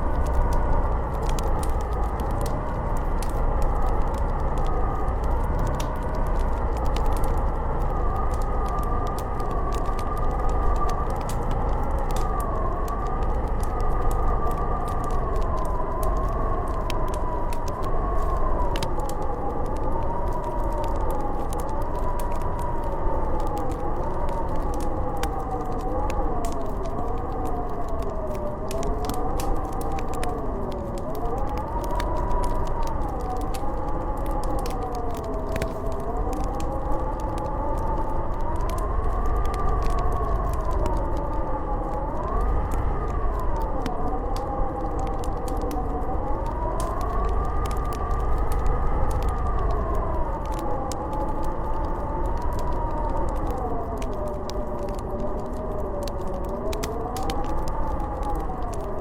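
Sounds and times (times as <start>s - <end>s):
crackling wood fire: 0.0s - 59.0s
howling blizzard wind: 0.0s - 59.0s.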